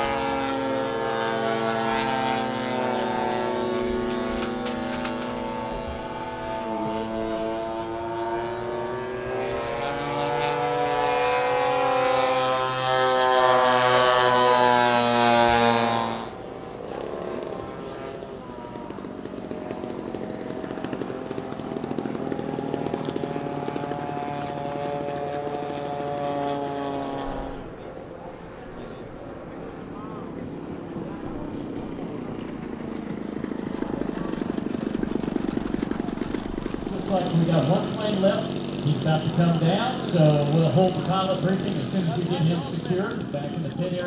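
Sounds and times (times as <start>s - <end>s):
model plane engine at low throttle: 0.0s - 44.0s
model plane engine flyby: 0.0s - 44.0s.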